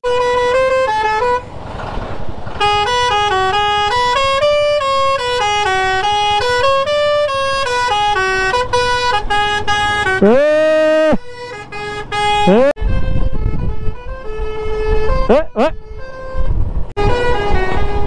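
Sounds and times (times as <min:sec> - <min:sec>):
truck musical horn: 0:00.0 - 0:01.6, 0:02.5 - 0:18.0
engine running: 0:00.1 - 0:15.2.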